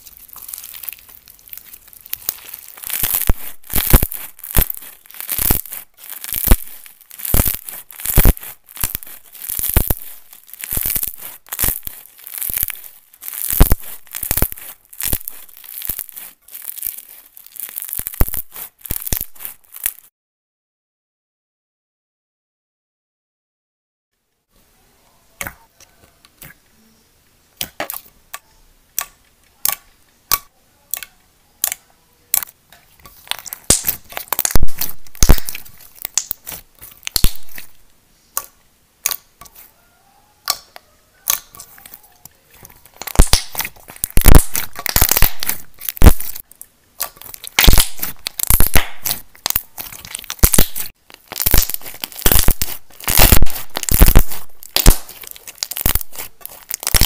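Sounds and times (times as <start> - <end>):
slime clicking and popping: 0.0 - 20.1, 27.6 - 37.8, 38.4 - 39.5, 40.4 - 42.0, 42.6 - 57.0.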